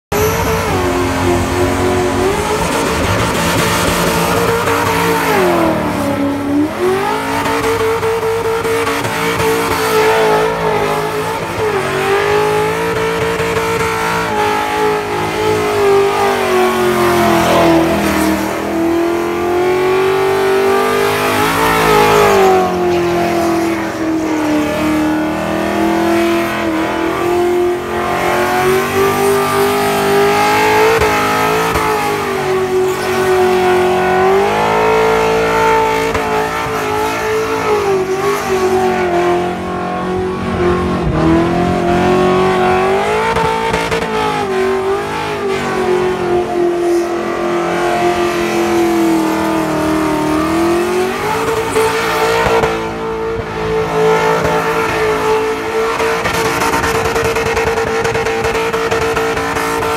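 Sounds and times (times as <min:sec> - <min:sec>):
car engine revving: 0:00.0 - 0:59.9
spinning tyres squealing: 0:00.1 - 0:59.9.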